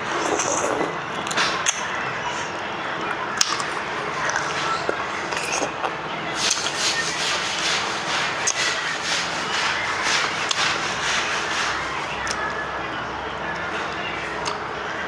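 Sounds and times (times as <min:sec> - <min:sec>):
rhythmic scraping strokes: 0:00.0 - 0:15.0.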